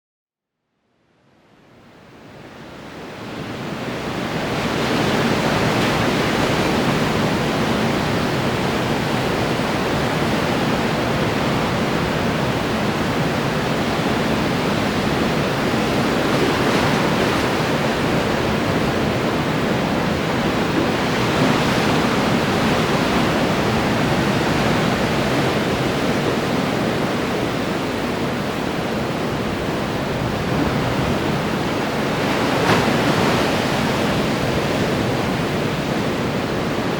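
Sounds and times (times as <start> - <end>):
ocean waves breaking on shore: 1.6 - 36.9.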